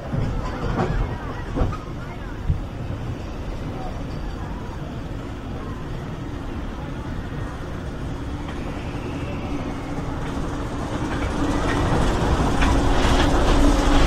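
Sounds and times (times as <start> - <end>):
roller coaster chain lift rattle: 0.0 - 14.0.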